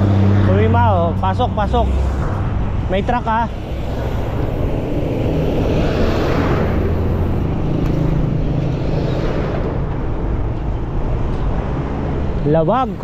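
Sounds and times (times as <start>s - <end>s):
truck passing by: 0.0s - 13.0s.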